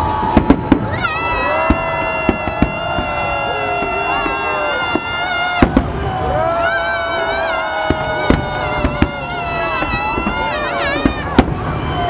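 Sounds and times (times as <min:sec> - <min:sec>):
fireworks bangs: 0:00.0 - 0:12.0
long steady pitched tone: 0:00.0 - 0:12.0.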